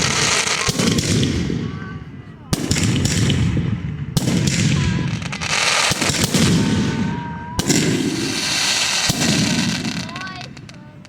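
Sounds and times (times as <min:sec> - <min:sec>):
fireworks bang: 0:00.0 - 0:11.0
fireworks crackling and popping: 0:00.0 - 0:11.0.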